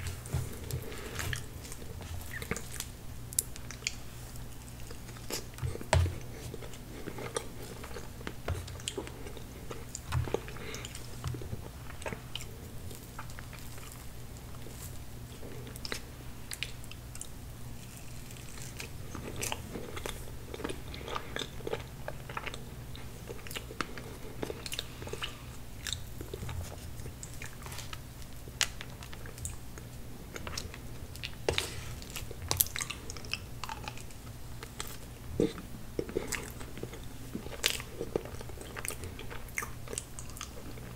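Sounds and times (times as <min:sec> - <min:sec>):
chewing and biting cake: 0:00.0 - 0:40.9.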